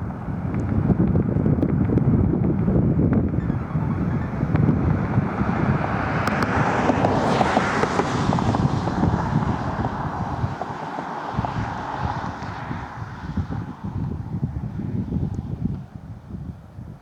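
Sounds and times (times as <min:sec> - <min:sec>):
jet plane passing overhead: 0:00.0 - 0:16.1
wind buffeting microphone: 0:00.0 - 0:17.0.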